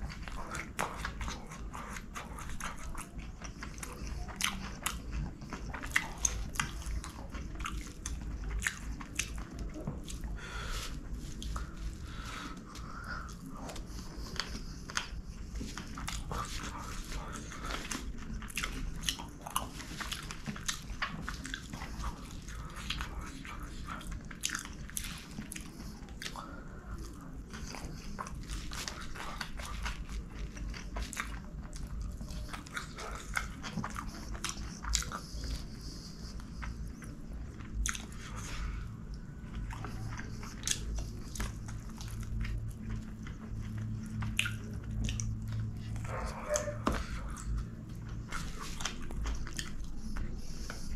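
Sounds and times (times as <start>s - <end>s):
chewing and mouth smacks: 0.0s - 50.9s.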